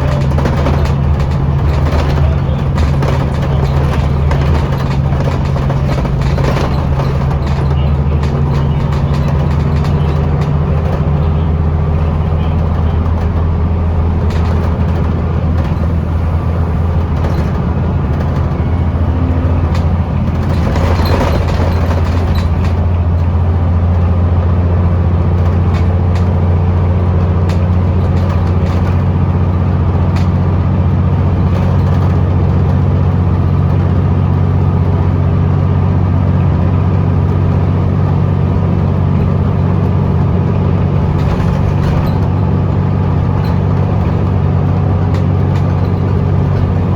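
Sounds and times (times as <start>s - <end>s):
bus diesel engine droning: 0.0s - 46.9s
rattles and clicks: 0.0s - 46.9s
road noise: 0.0s - 46.9s.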